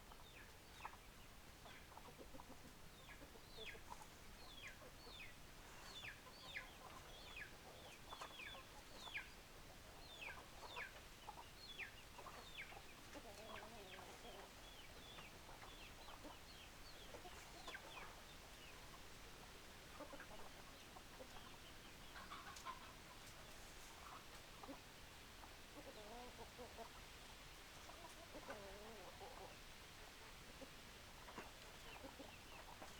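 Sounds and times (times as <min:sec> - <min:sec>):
chicken calls and clucks: 0:00.0 - 0:32.9.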